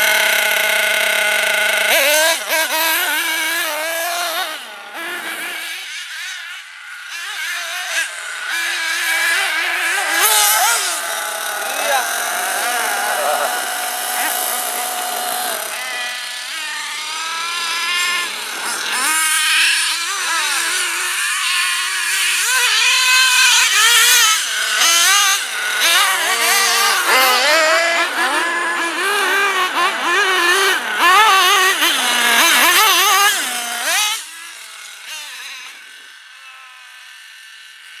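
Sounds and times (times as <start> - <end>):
small engine revving: 0.0 - 38.0.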